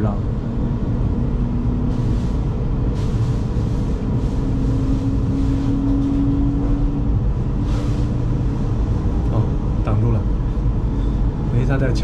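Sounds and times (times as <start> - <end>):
train cabin rumble: 1.8 - 12.0.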